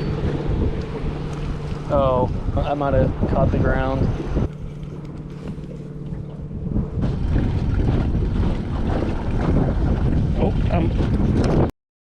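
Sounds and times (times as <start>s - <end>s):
boat motor humming: 0.0s - 11.7s
water noise: 0.0s - 11.7s
wind on microphone: 0.0s - 11.7s.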